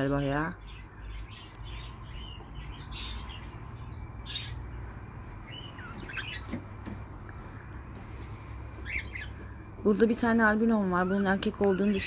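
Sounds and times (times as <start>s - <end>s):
budgerigars chirping: 0.0s - 7.8s, 8.7s - 12.0s.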